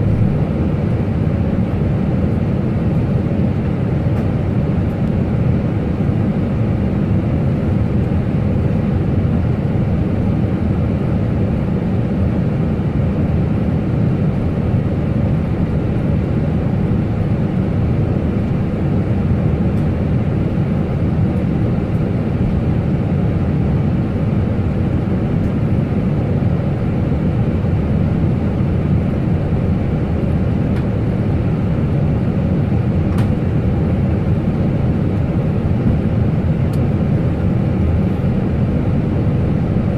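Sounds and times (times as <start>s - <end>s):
airliner cockpit engine rumble: 0.0s - 39.9s.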